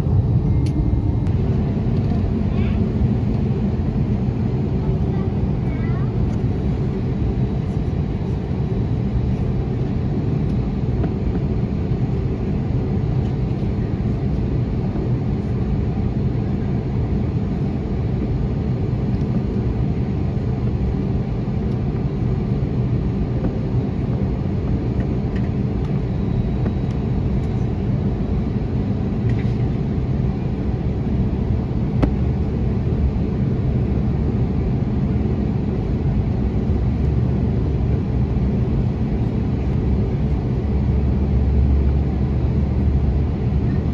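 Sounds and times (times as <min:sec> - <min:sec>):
airplane engine rumble in cabin: 0:00.0 - 0:43.9.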